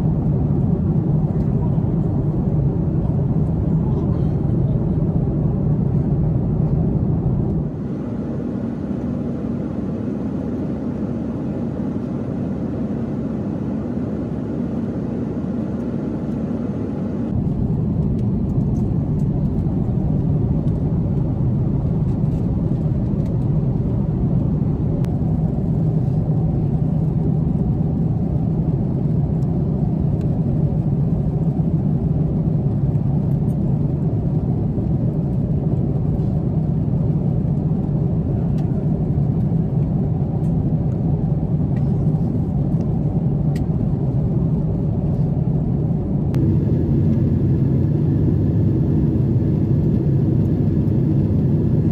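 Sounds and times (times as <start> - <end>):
airliner cabin engine rush: 0.0 - 51.9.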